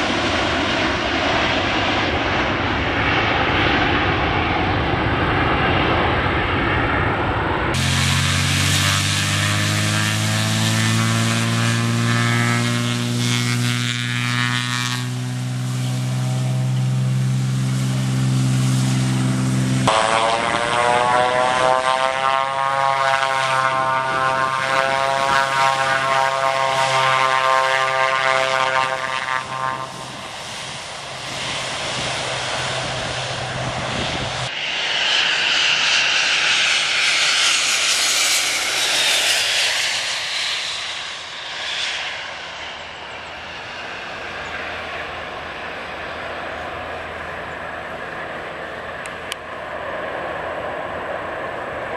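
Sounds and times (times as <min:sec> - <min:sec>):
jet engine rushing: 0:00.0 - 0:51.9
propeller plane engine droning: 0:00.0 - 0:51.9
twin-engine plane whine: 0:00.0 - 0:51.9.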